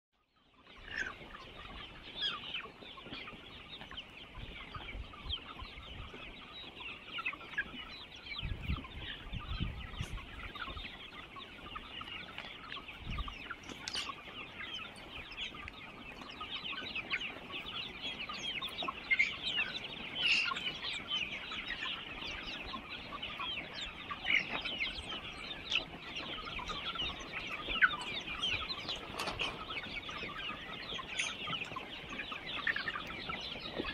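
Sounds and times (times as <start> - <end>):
chicks peeping and clucking: 0.2 - 33.9.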